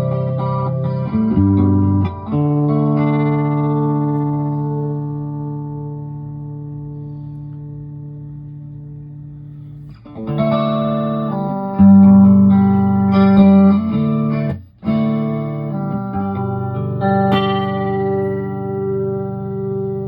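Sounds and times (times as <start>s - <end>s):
electric guitar chords with flanger: 0.0s - 20.0s.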